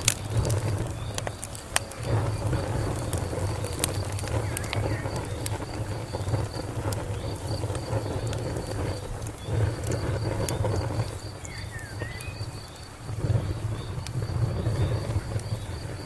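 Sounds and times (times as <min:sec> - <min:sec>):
cricket chirping: 0:00.0 - 0:16.0
wood fire crackling: 0:00.0 - 0:16.0.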